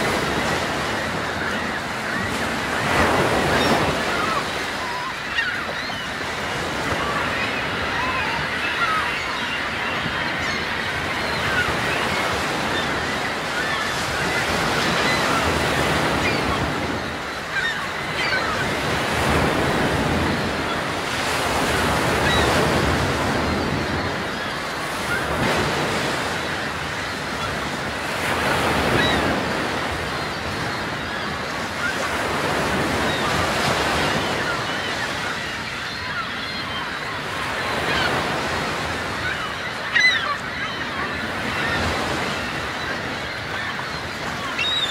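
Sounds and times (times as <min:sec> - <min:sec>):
faint seabird cries: 0:00.0 - 0:44.9
sea surf washing: 0:00.0 - 0:44.9.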